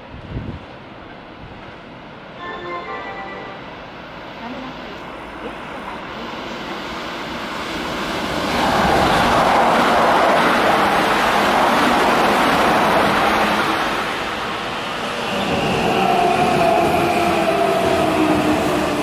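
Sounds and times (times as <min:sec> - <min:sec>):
electric train passing: 0:00.7 - 0:19.0.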